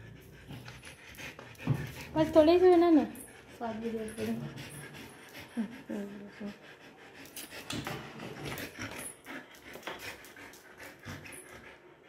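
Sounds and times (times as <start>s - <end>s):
dog with stick clicking and scraping: 0.0s - 5.6s, 7.2s - 11.9s.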